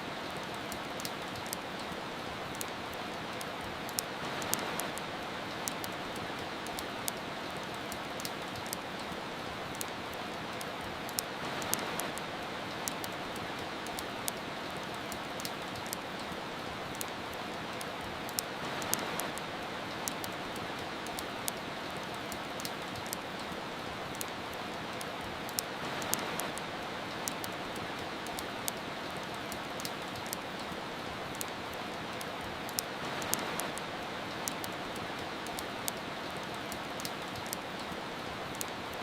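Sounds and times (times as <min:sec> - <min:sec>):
rain hiss: 0:00.0 - 0:39.0
wood fire crackling: 0:00.1 - 0:39.0.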